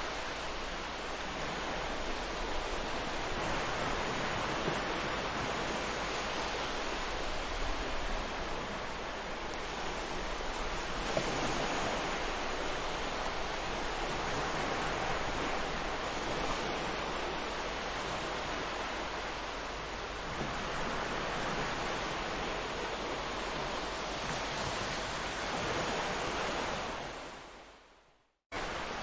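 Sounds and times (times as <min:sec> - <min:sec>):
ocean waves breaking on shore: 0:00.0 - 0:29.0.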